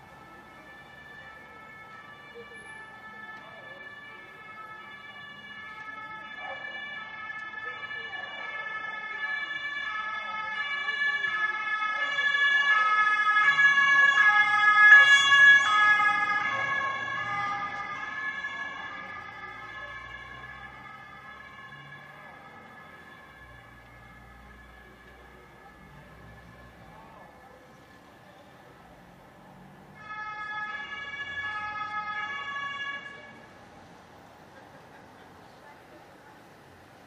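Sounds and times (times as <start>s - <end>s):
ambulance two-tone siren: 0.0s - 33.7s.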